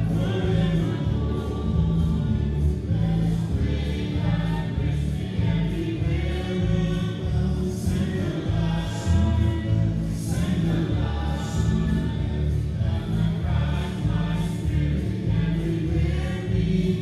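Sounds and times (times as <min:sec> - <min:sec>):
choir singing gospel: 0:00.0 - 0:17.0
sustained low accompaniment: 0:00.0 - 0:17.0.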